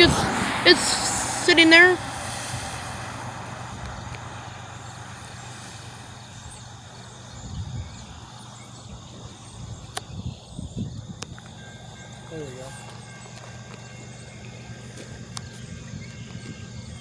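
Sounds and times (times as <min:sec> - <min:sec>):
car engine idling: 0:00.0 - 0:17.0
high insect drone: 0:00.0 - 0:17.0
low rumbles: 0:00.0 - 0:17.0.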